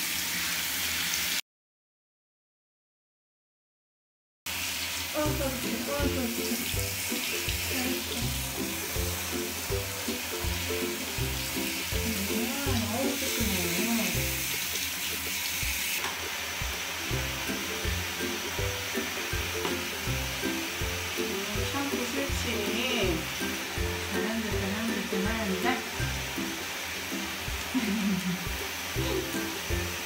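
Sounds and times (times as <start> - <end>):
shower spraying water: 0.0 - 1.4, 4.5 - 30.0.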